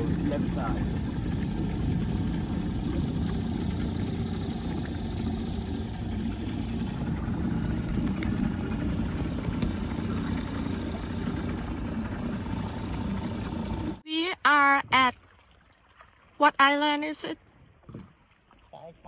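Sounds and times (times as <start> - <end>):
outboard motor running: 0.0 - 19.0
water and hull noise: 0.0 - 19.0.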